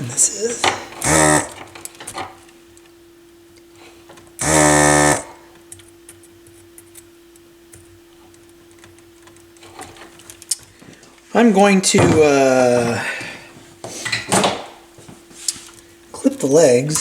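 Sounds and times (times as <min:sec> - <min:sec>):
desoldering vacuum pump buzzing: 0:00.0 - 0:17.0
faint steady hum: 0:00.0 - 0:17.0.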